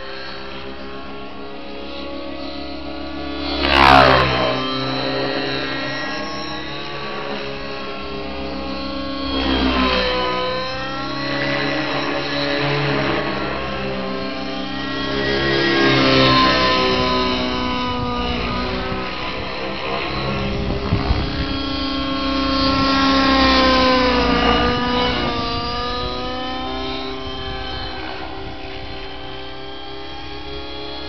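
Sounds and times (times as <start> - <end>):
model helicopter rotor whine: 0.0 - 31.0.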